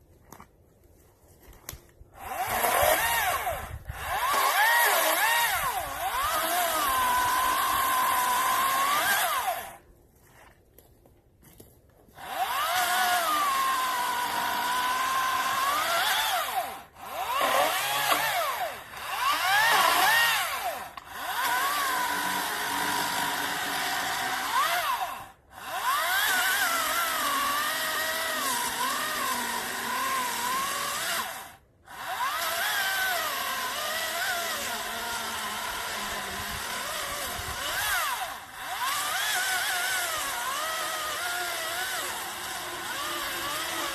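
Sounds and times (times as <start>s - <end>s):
electric chainsaw cutting wood: 1.6s - 10.5s, 12.1s - 43.9s.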